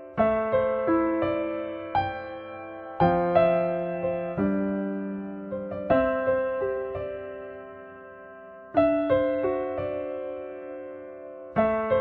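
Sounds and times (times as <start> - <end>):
slow piano-like chords: 0.0 - 12.0.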